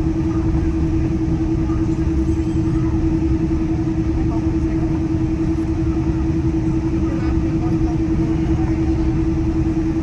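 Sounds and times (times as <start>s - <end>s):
aircraft cabin rumble: 0.0s - 10.0s
constant hum: 0.0s - 10.0s.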